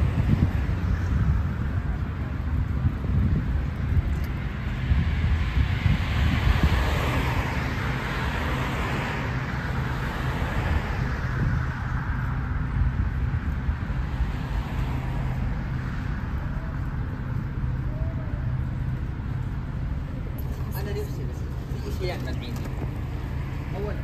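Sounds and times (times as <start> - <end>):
low rumble of traffic: 0.0 - 24.0
vehicle passing by: 0.0 - 24.0.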